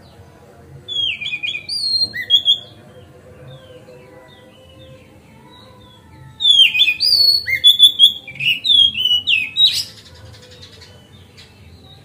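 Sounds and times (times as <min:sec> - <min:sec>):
bird singing whistled notes: 0:00.8 - 0:12.0
faint bird chirps: 0:00.8 - 0:12.0.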